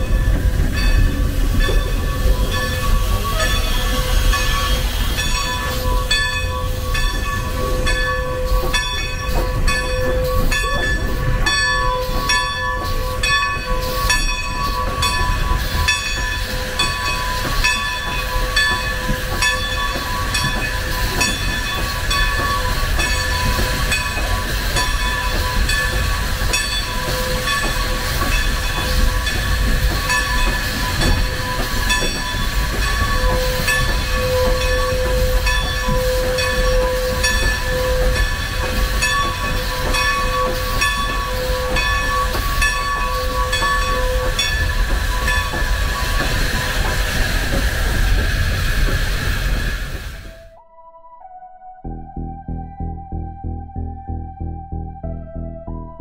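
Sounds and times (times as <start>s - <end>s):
wheels clicking over rail joints: 0.0s - 50.2s
railroad cars rumbling: 0.0s - 50.6s.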